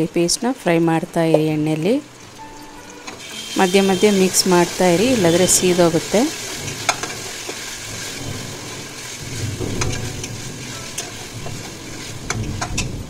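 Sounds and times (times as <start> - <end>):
onions sizzling in oil: 2.0 - 13.0.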